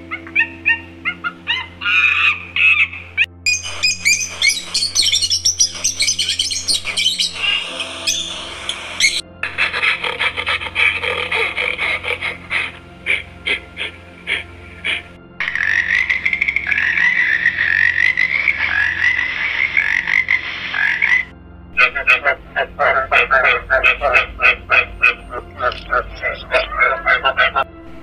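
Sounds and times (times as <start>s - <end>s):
birds chirping and calling: 0.0s - 27.7s.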